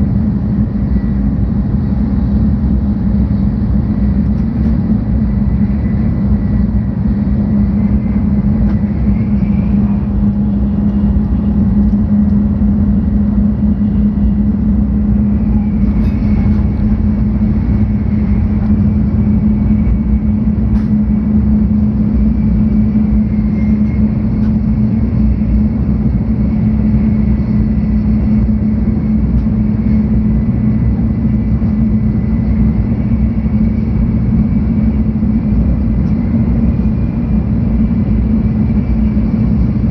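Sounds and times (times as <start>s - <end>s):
faint high whine: 0.0s - 39.9s
train cabin rumble: 0.0s - 39.9s.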